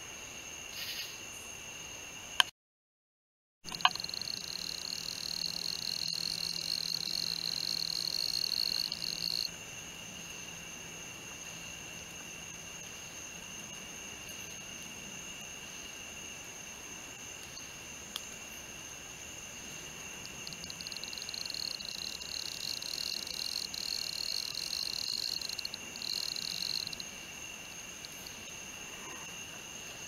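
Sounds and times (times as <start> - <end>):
bush cricket buzzy trill: 0.0 - 2.5, 3.7 - 30.0
high-pitched insect song: 0.0 - 2.5, 3.7 - 30.0.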